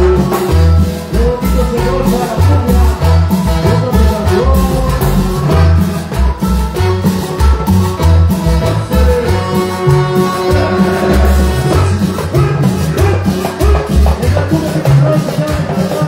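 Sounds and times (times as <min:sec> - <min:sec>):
live band playing cumbia: 0:00.0 - 0:16.0
pulsing bass line: 0:00.0 - 0:16.0.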